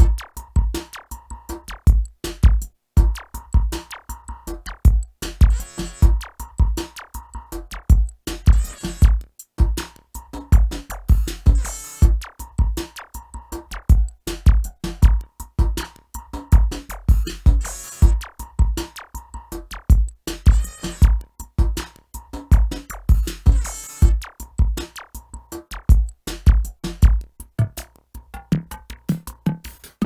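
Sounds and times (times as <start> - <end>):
drum machine beat: 0.0 - 30.0.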